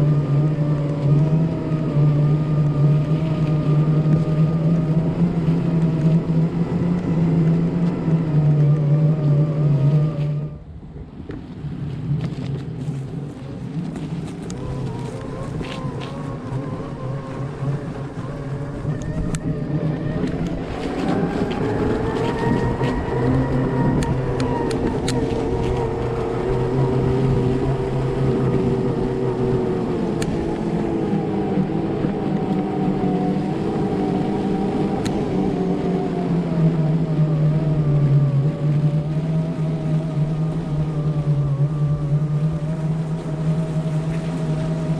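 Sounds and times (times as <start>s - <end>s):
electric motor whining: 0.0s - 10.6s, 14.0s - 44.9s.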